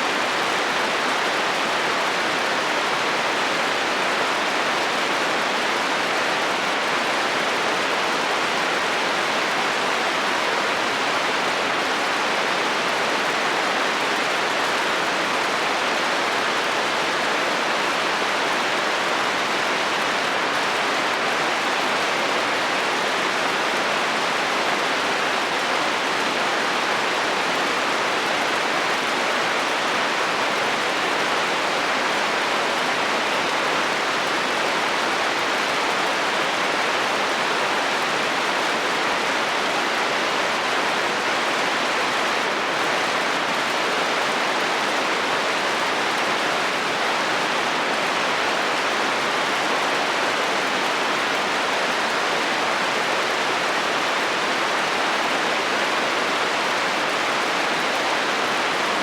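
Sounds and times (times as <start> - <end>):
heavy rain on a metal roof: 0.0 - 59.0.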